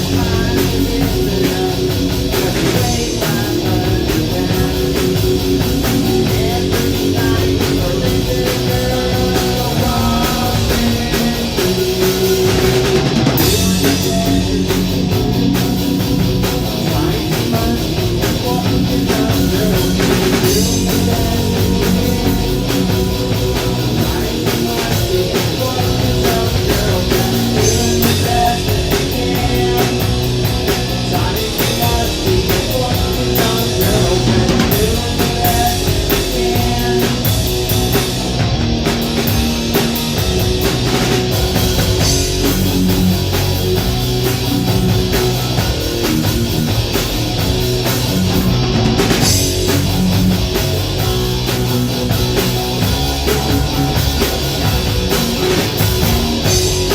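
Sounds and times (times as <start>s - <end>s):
bass guitar: 0.0s - 56.9s
distorted electric guitar: 0.0s - 56.9s
pounding drum kit: 0.0s - 56.9s.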